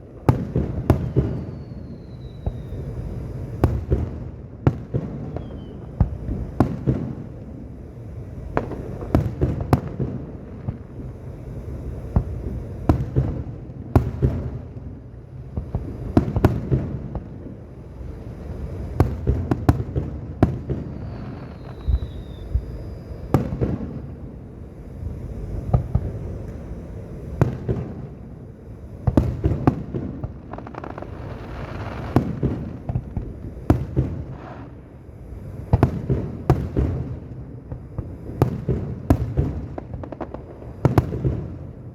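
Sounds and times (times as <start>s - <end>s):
fireworks bangs and booms: 0.0s - 41.9s.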